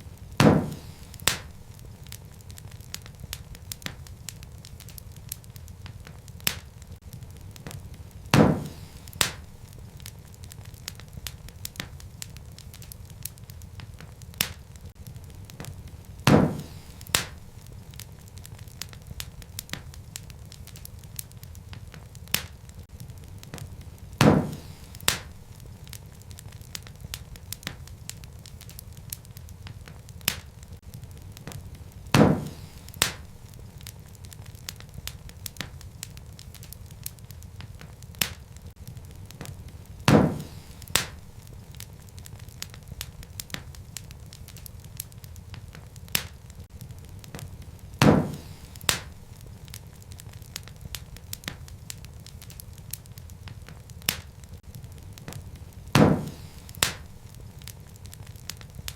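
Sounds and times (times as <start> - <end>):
low fire rumble: 0.0 - 58.9
sharp fire pops: 0.0 - 58.9
wood fire crackling: 0.0 - 58.9.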